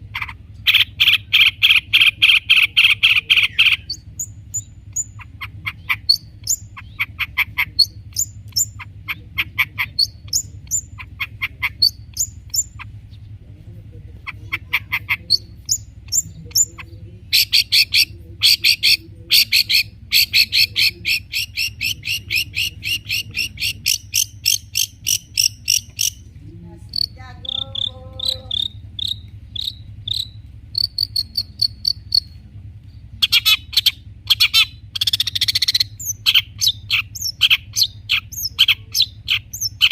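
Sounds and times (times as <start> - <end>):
faint low hum: 0.0 - 39.9
shrike singing: 0.0 - 39.9.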